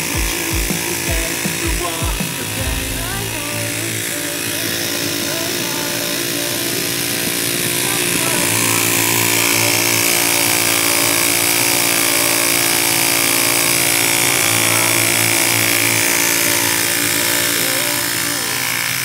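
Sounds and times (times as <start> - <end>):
generator motor humming and whining: 0.0 - 19.0.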